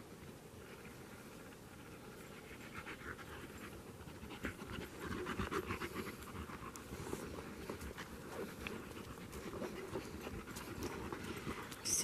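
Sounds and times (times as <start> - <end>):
dog panting: 0.7 - 12.0.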